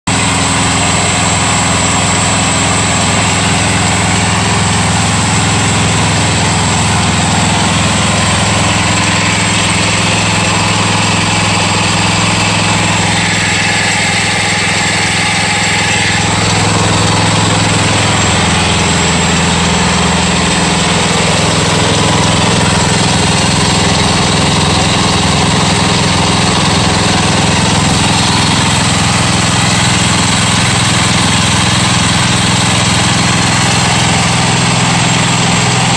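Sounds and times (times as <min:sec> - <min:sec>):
sawmill gasoline engine running: 0:00.0 - 0:35.9.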